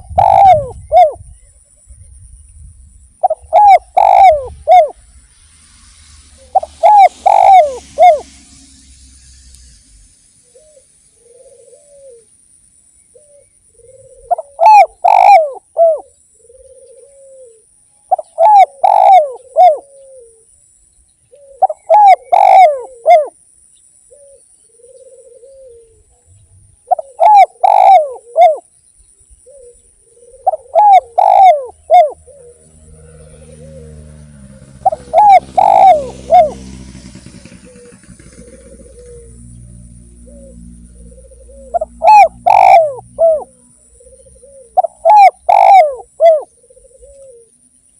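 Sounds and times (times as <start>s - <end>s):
dove cooing: 0.0s - 1.4s, 3.2s - 5.0s, 6.4s - 8.3s, 10.5s - 12.3s, 13.1s - 20.5s, 21.3s - 23.4s, 24.1s - 47.7s.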